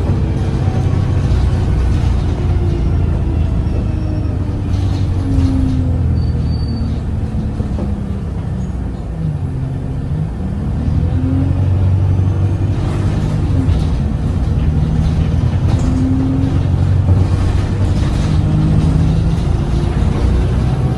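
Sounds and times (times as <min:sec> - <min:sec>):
bus diesel engine: 0:00.0 - 0:20.9
gearbox whining: 0:00.0 - 0:20.9.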